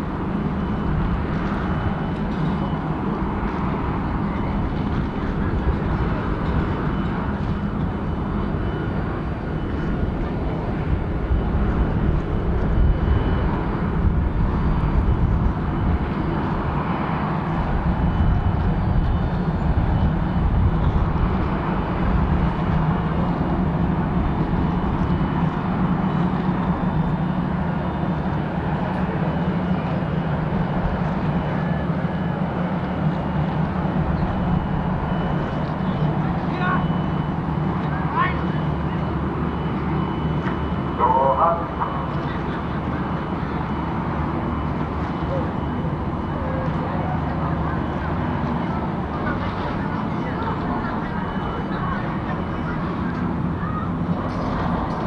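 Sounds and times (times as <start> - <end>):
ship diesel engines droning: 0.0 - 55.0.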